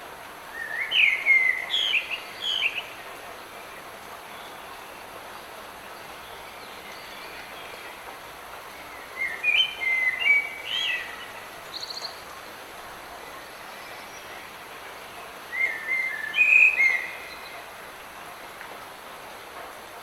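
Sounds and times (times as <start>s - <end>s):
light rain hissing: 0.0s - 20.0s
songbird singing: 0.4s - 3.0s, 3.6s - 17.9s.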